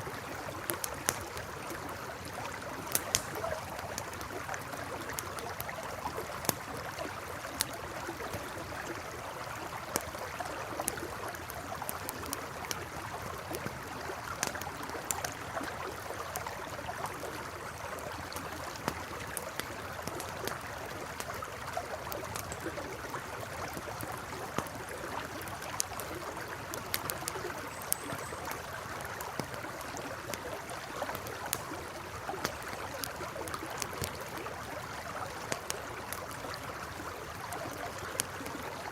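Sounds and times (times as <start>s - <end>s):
campfire crackling: 0.0s - 38.9s
river flowing: 0.0s - 38.9s.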